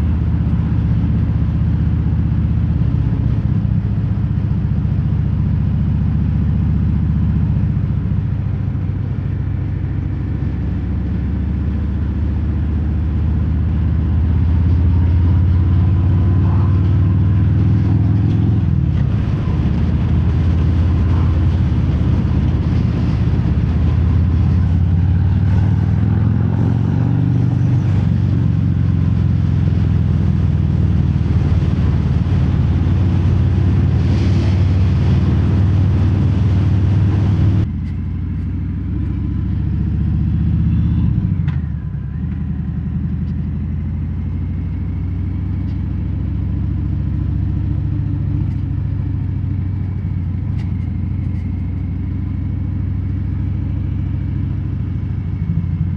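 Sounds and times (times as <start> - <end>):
motorcycle exhaust note: 7.8 - 55.9.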